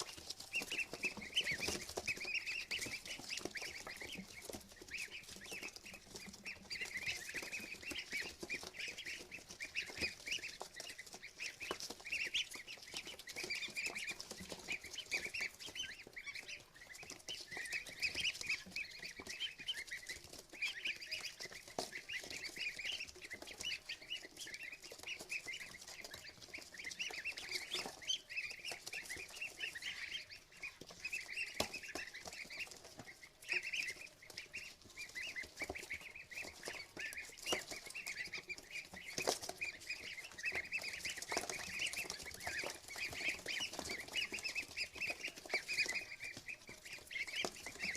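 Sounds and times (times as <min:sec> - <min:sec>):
ducklings peeping: 0:00.0 - 0:47.9.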